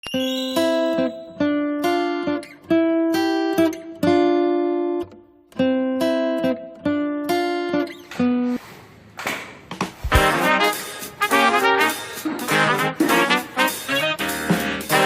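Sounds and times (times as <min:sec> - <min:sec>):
acoustic guitar chords: 0:00.1 - 0:08.6, 0:10.1 - 0:15.0.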